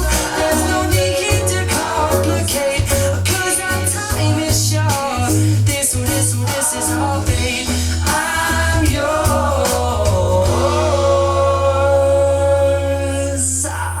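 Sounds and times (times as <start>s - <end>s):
person singing over bass: 0.0s - 14.0s.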